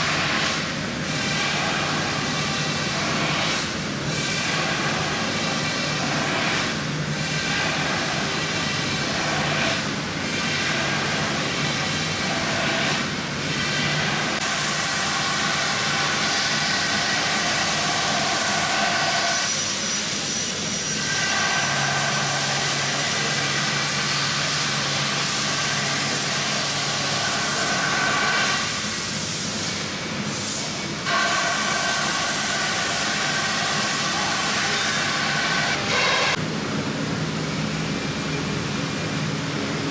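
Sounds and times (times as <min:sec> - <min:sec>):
milling machine spindle whirring: 0:00.0 - 0:29.1, 0:30.3 - 0:36.4.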